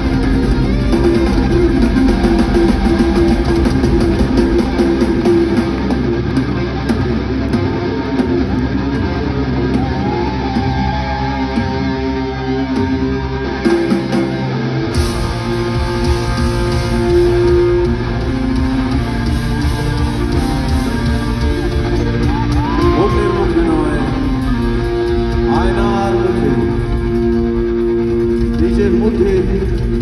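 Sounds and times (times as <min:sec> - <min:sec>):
bass guitar: 0:00.0 - 0:30.0
drums: 0:00.0 - 0:30.0
electric guitar: 0:00.0 - 0:30.0
live rock band playing: 0:00.0 - 0:30.0.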